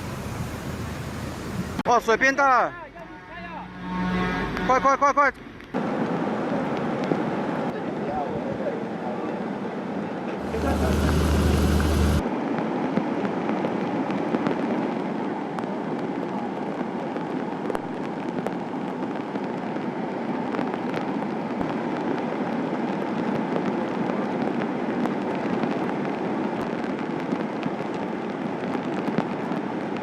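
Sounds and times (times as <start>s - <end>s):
roar of flood water and rain: 5.8s - 30.0s.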